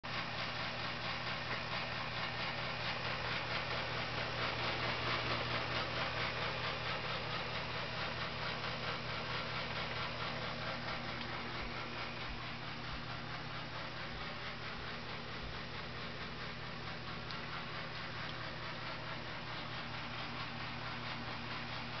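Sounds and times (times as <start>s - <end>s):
dehumidifier fan rushing: 0.1s - 22.0s.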